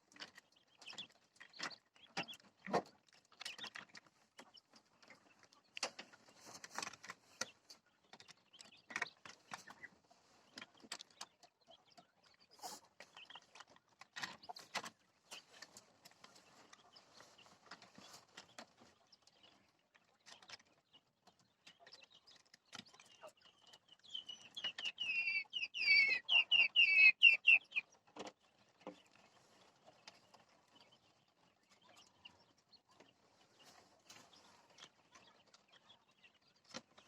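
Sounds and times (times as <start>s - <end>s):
faint clicks and scratches: 0.0s - 25.2s, 27.5s - 37.0s
quail chirping: 0.0s - 37.0s.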